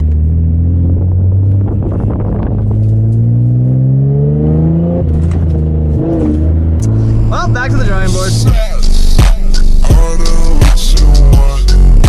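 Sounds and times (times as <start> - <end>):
car engine accelerating: 0.0 - 11.2.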